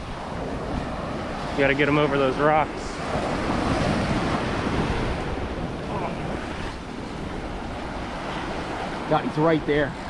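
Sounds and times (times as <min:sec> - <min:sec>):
ocean surf washing onto beach: 0:00.0 - 0:10.0
wind rumbling on microphone: 0:00.0 - 0:10.0.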